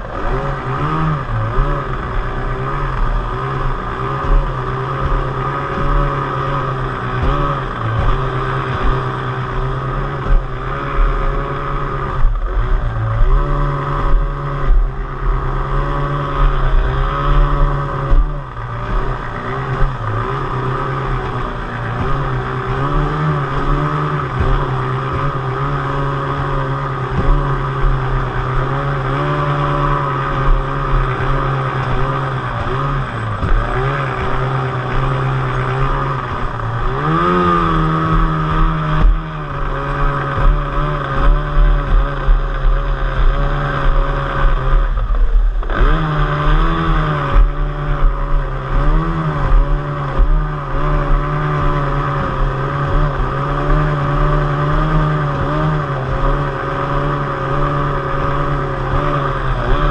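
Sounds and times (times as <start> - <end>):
outboard motor running at speed: 0.0 - 59.9
water rushing: 0.0 - 59.9
wind: 0.0 - 59.9.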